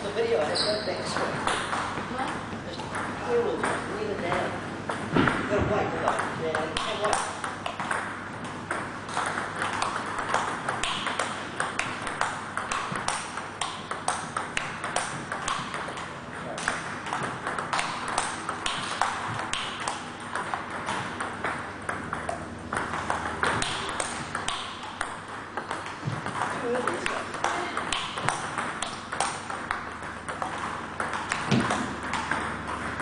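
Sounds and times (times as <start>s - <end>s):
ping pong ball clicking off paddles: 0.0s - 33.0s
ping pong ball bouncing on table: 0.2s - 33.0s.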